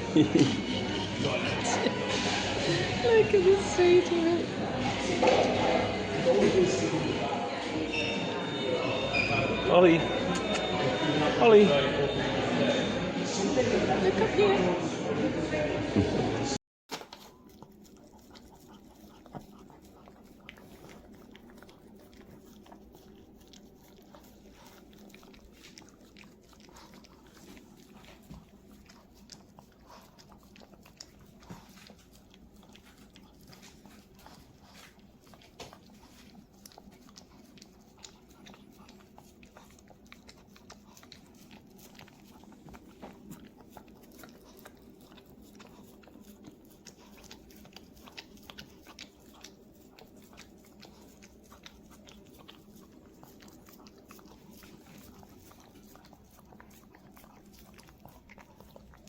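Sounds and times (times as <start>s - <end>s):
dogs licking and chewing: 0.0s - 14.9s, 16.9s - 59.0s.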